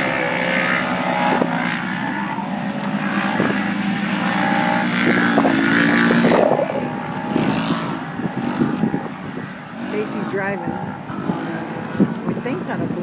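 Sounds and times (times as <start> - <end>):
race vehicle engines revving: 0.0 - 13.0.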